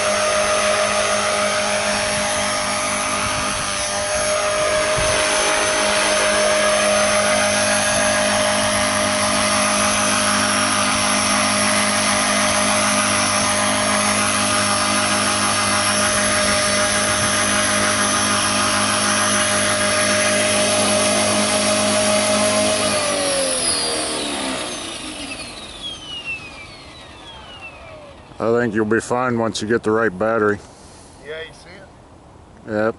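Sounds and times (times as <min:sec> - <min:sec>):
rc helicopter rotor whine: 0:00.0 - 0:29.1.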